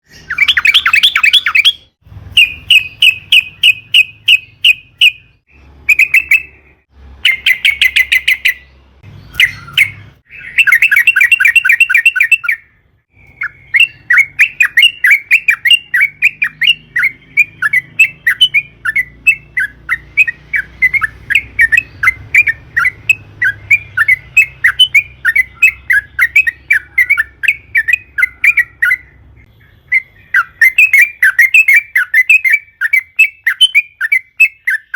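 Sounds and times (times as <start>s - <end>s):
bird singing bubbling notes: 0.0s - 34.9s.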